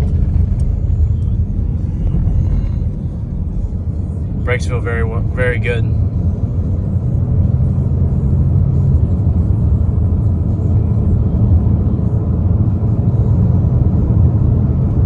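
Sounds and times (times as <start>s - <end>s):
car interior engine and road noise: 0.0s - 15.0s.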